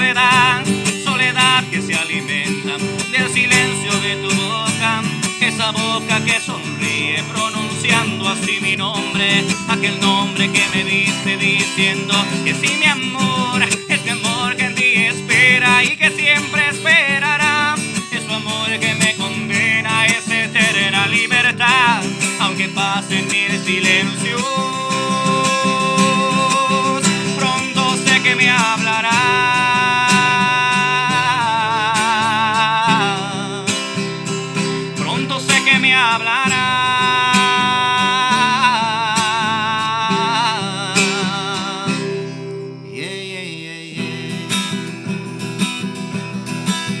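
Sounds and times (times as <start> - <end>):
person singing with vibrato: 0.0 - 44.7
acoustic guitar strumming: 0.0 - 47.0.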